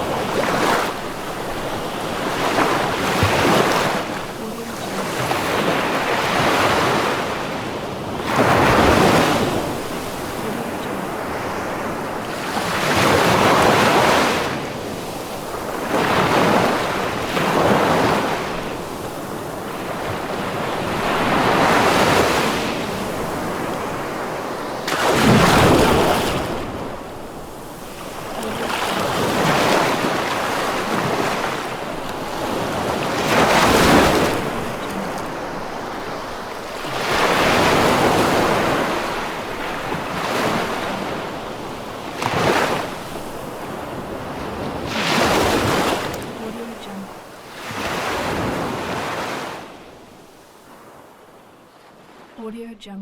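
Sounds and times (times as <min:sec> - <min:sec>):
waves breaking and washing in: 0:00.0 - 0:52.6.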